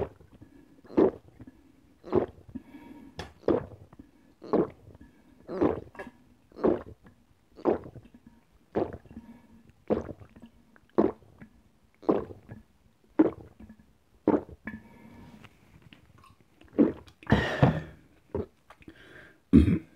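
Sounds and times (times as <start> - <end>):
person gulping juice: 0.0 - 15.2, 16.0 - 19.0.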